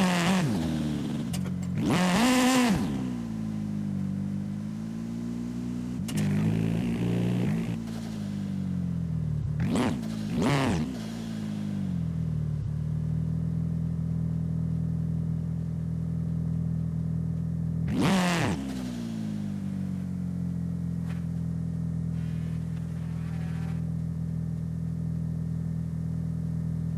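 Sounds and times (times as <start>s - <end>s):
video game car engine: 0.0s - 26.9s.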